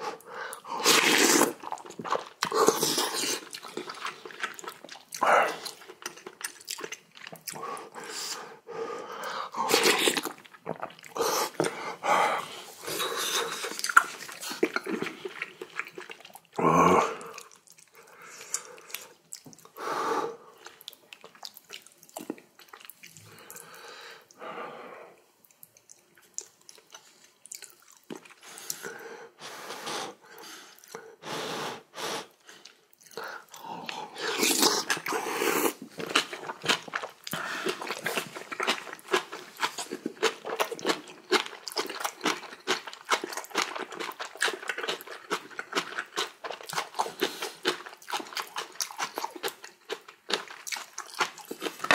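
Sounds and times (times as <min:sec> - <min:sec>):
person chewing food: 0:00.0 - 0:19.8, 0:20.4 - 0:24.4, 0:25.4 - 0:29.0, 0:32.4 - 0:51.9.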